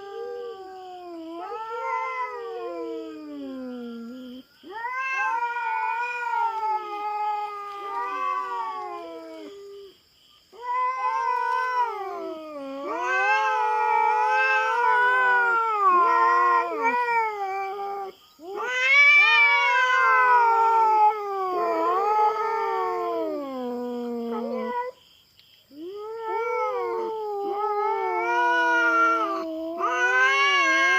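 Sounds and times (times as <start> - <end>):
cat caterwauling: 0.0 - 9.9, 10.5 - 25.0, 25.8 - 30.9.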